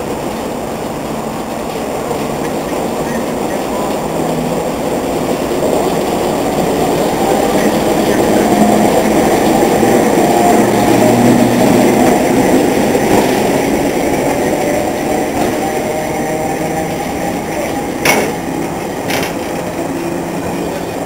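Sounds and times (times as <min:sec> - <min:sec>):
diesel locomotive engine running: 0:00.0 - 0:21.0
wheels rumbling on rail track: 0:00.0 - 0:21.0.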